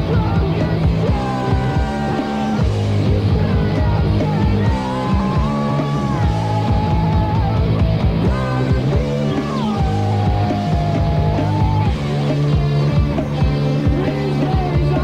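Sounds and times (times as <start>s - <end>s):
drums keeping a steady beat: 0.0s - 15.0s
punk rock band playing: 0.0s - 15.0s.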